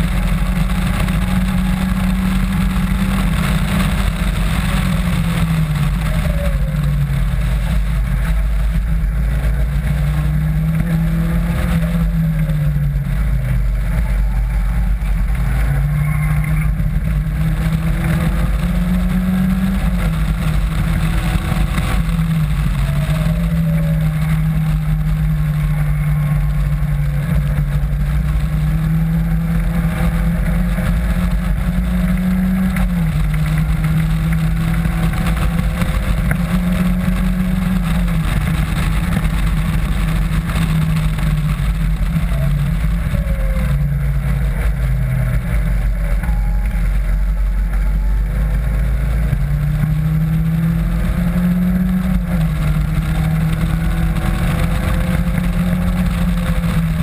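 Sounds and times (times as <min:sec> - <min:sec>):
car engine revving: 0:00.0 - 0:57.0
wind and road noise: 0:00.0 - 0:57.0.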